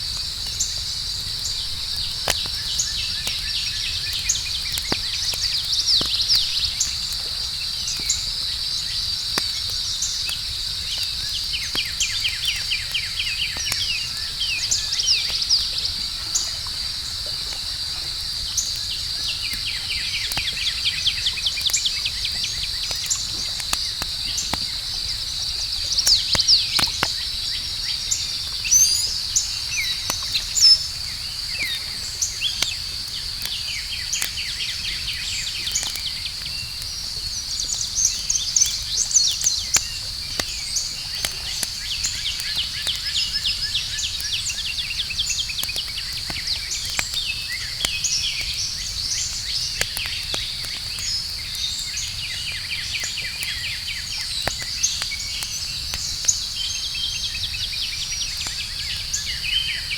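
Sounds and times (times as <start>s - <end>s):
campfire crackling: 0.0s - 59.9s
crickets trilling: 0.0s - 59.9s.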